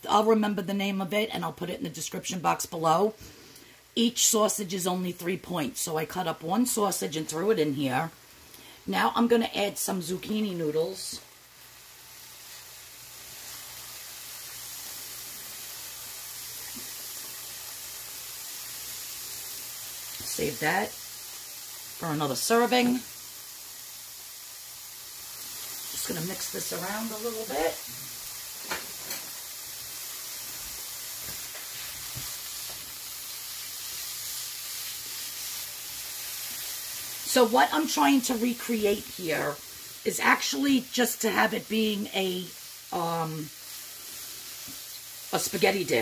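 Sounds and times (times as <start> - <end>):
food sizzling in frying pan: 0.0 - 46.0.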